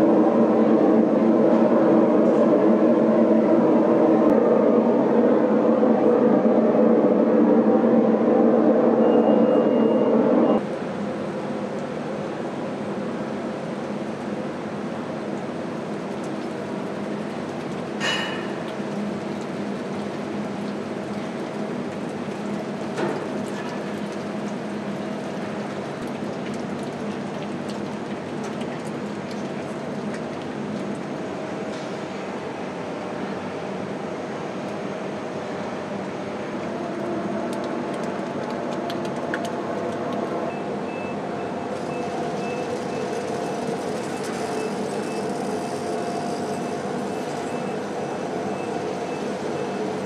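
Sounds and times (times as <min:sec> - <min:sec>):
furnace burner roaring: 0:00.0 - 0:50.0
machinery hum: 0:00.0 - 0:50.0.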